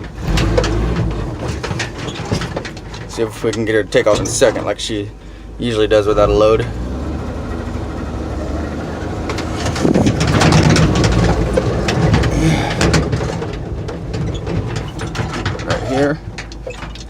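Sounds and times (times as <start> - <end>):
truck engine running rough: 0.0 - 17.0.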